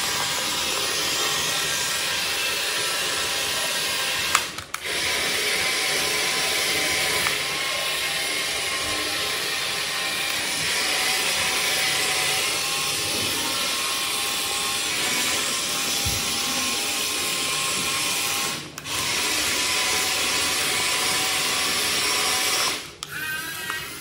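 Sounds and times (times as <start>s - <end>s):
plastic tracks on tile floor: 0.0s - 24.0s
toy gear motors whirring: 0.0s - 24.0s.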